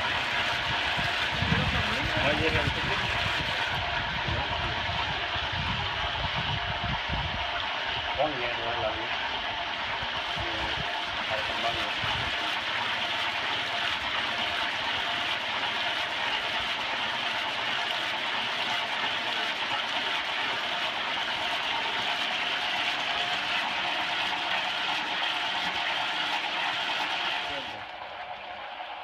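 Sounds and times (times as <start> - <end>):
beans churning in water: 0.0 - 29.0
washing machine motor running: 0.0 - 29.0.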